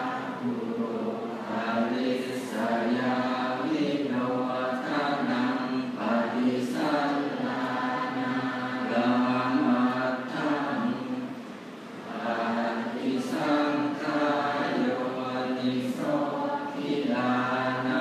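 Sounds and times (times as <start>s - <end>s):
monks chanting in unison: 0.0s - 11.4s, 12.0s - 18.0s.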